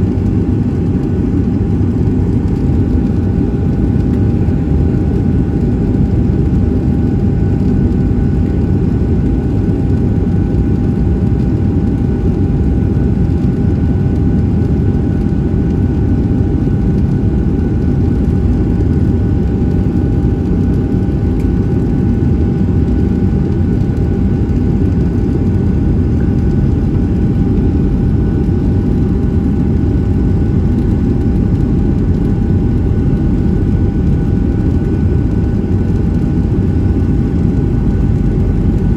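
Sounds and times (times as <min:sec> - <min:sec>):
aircraft cabin engine rumble: 0:00.0 - 0:38.9
steady whine: 0:00.0 - 0:38.9.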